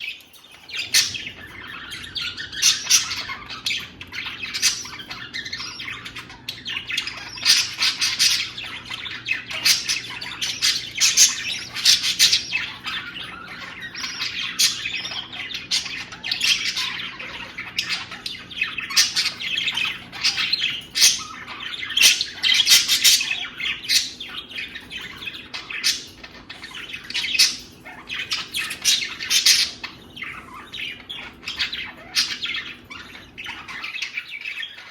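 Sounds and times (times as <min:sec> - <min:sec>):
budgerigars chattering and squawking: 0:00.0 - 0:34.9.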